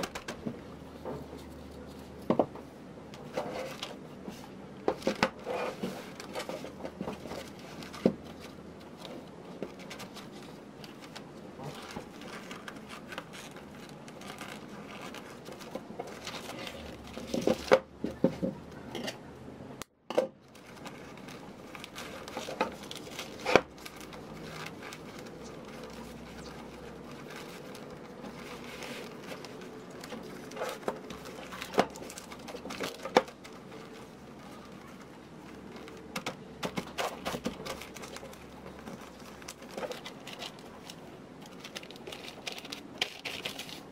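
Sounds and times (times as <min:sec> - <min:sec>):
wrapping paper crinkling: 0:03.3 - 0:17.8, 0:20.4 - 0:43.9.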